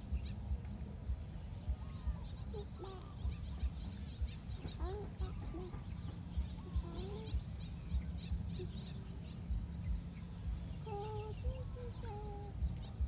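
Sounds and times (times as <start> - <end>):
faint high bird chirps: 0.0 - 13.0
steady low rumble: 0.0 - 13.0.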